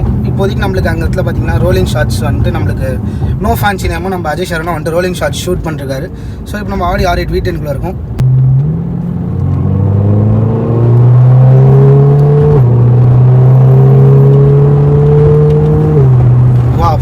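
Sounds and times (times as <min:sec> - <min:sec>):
car engine accelerating: 0:00.0 - 0:06.1, 0:07.2 - 0:17.0.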